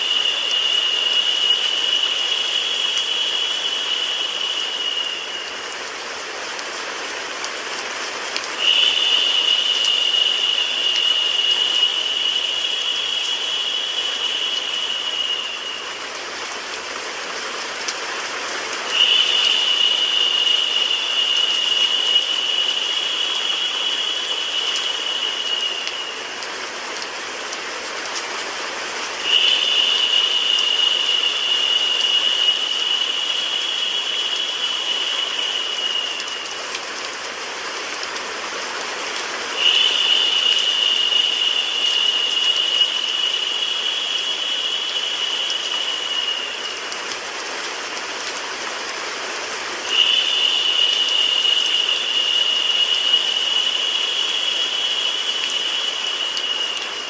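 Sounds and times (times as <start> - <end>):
rain and white noise hiss: 0.0 - 57.0.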